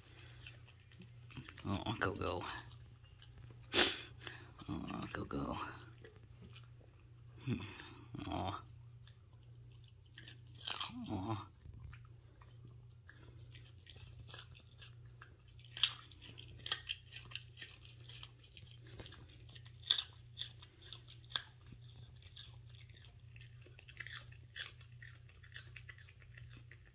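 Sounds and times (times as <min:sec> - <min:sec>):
dog chewing a carrot: 0:00.0 - 0:26.9.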